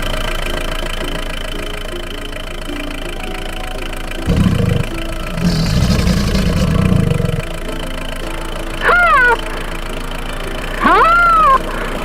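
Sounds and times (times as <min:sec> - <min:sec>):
light tune of repeated notes: 0:00.0 - 0:12.0
low rumbling: 0:01.2 - 0:12.0.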